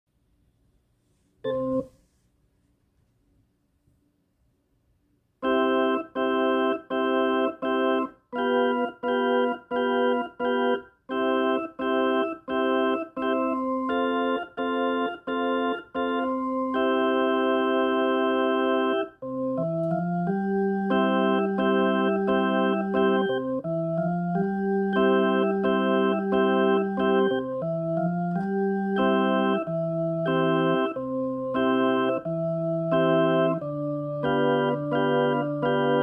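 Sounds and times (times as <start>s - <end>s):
electronic keyboard melody: 1.4s - 2.0s, 5.4s - 36.0s.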